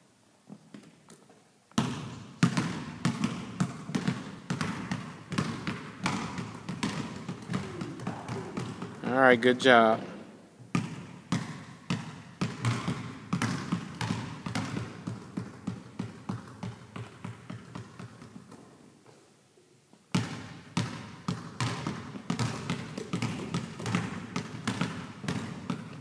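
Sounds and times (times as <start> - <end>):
basketball bouncing on hardwood: 1.8 - 9.0, 10.7 - 18.6, 20.1 - 26.0.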